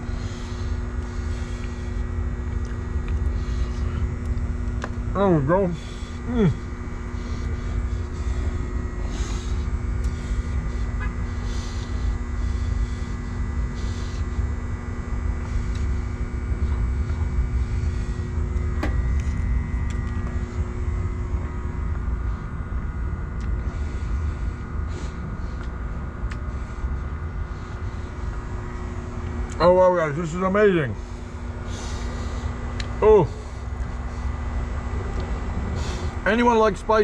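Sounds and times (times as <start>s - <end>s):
droning hum of fixed tones: 0.0s - 37.0s
steady low rumble: 0.0s - 37.0s.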